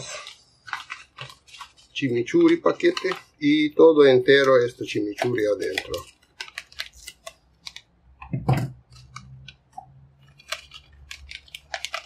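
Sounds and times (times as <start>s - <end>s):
plastic packet crinkling: 0.0s - 8.0s, 8.9s - 12.0s.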